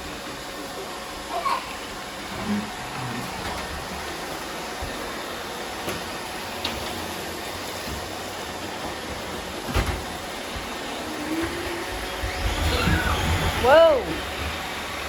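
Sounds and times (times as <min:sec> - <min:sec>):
robot vacuums whirring: 0:00.2 - 0:15.0.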